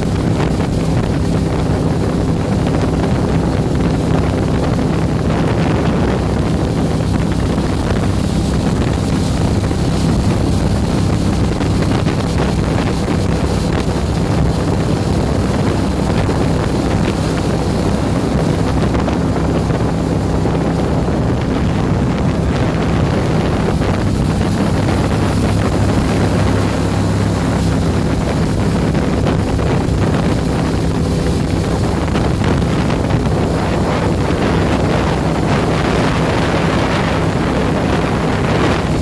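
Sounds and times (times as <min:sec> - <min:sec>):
boat motor running: 0:00.0 - 0:39.0
wind buffeting microphone: 0:00.0 - 0:39.0.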